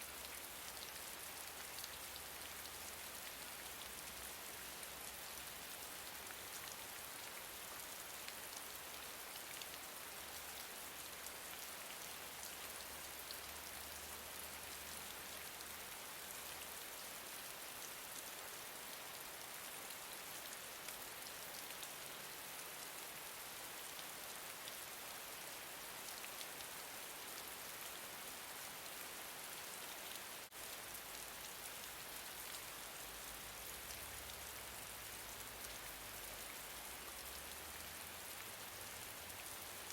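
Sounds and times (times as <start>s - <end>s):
gentle rain patter: 0.0s - 39.9s.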